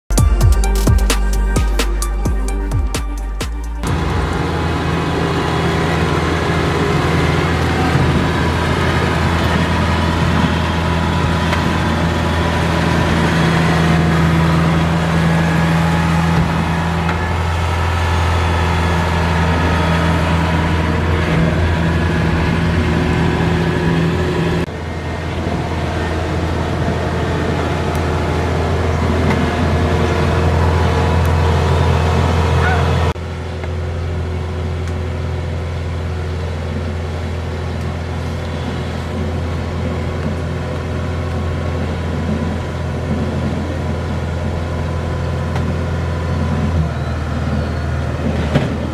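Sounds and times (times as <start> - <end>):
combine harvester diesel engine: 0.1 - 48.9.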